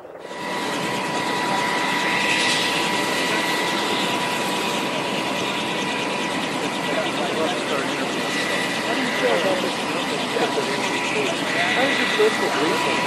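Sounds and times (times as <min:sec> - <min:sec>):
helicopter rotor and turbine noise: 0:00.0 - 0:13.0
high turbine whine: 0:00.0 - 0:13.0.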